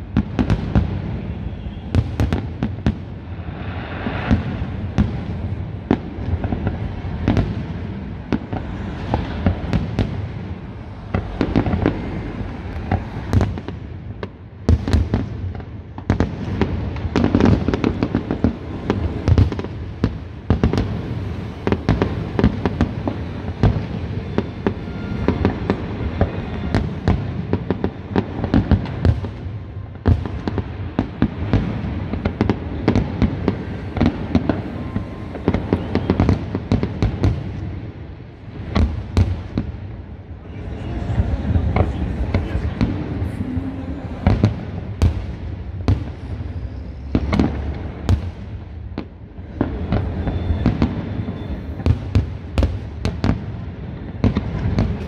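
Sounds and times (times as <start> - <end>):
fireworks booms and cracks: 0.0 - 55.0.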